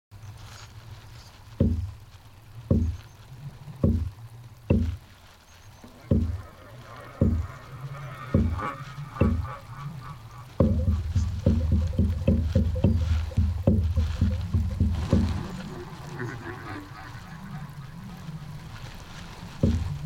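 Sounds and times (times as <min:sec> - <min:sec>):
faint high crackling: 0:00.1 - 0:20.0
low deep thuds: 0:01.5 - 0:05.2, 0:05.8 - 0:17.0, 0:18.0 - 0:20.0.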